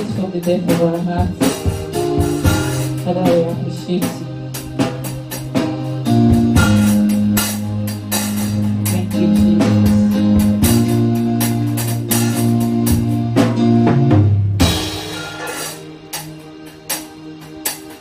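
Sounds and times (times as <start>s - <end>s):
drum beat: 0.0s - 18.0s
electronic keyboard chords: 0.0s - 18.0s.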